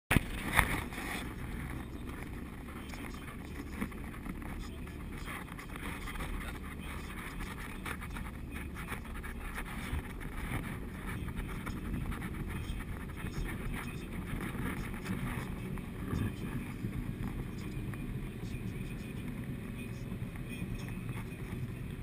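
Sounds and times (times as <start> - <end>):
car road and engine rumble: 0.1 - 22.0.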